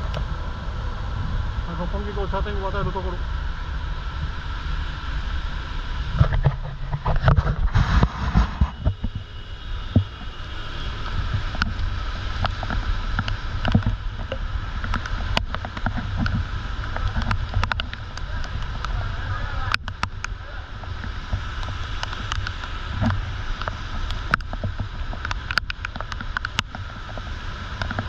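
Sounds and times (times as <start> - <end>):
rain: 0.0 - 28.0
wind buffeting microphone: 5.2 - 28.0.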